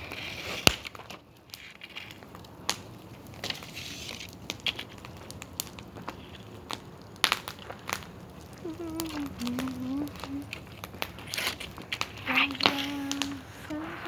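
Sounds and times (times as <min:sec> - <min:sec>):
wood bonfire crackling and popping: 0:00.0 - 0:14.0.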